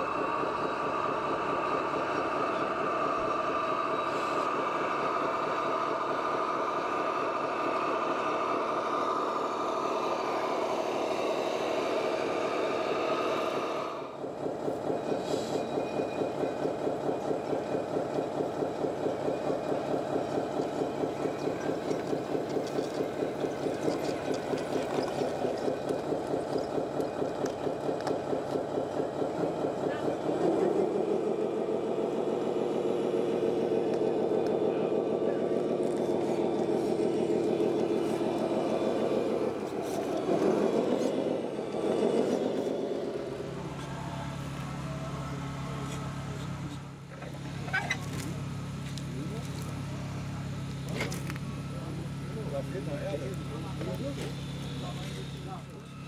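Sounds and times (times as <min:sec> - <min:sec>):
model engine with high whine: 0:00.0 - 0:56.0
pulsing diesel-like idle: 0:00.0 - 0:56.0.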